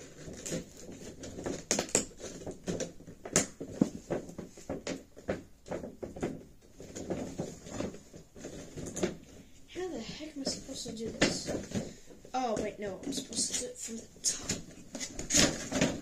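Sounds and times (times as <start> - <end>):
hands tapping and scraping cardboard box: 0.0 - 9.5, 10.4 - 13.6, 14.2 - 16.0.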